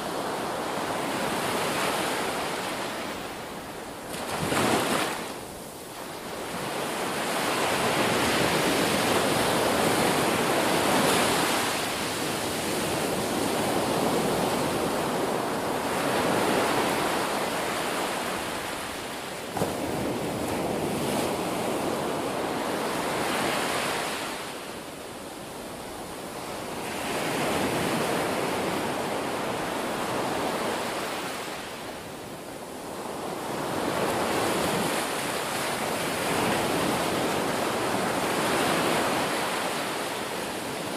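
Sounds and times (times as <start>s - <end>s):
waves breaking and washing: 0.0s - 40.9s.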